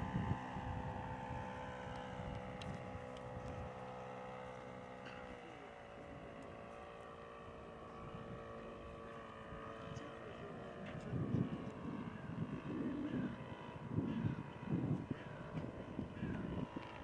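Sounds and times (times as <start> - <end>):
distant model plane engine drone: 0.0 - 17.0.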